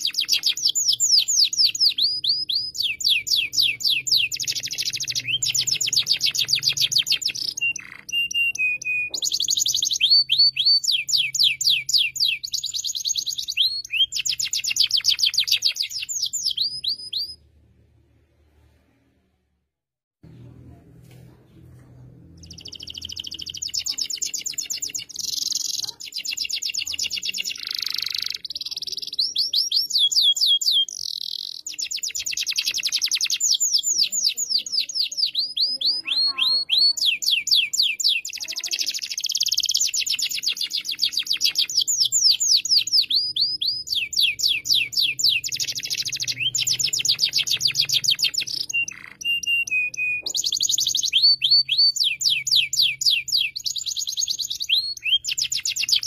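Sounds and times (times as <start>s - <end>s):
canary singing trills: 0.0s - 17.4s, 22.4s - 56.0s.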